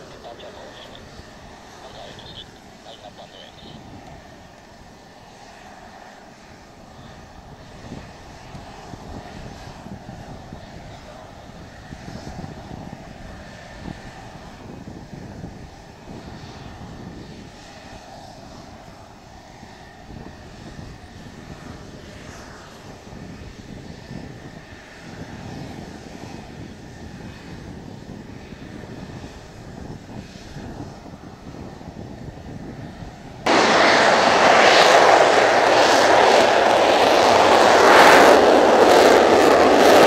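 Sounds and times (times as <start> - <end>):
jet engine rumble and whine: 0.0 - 40.0.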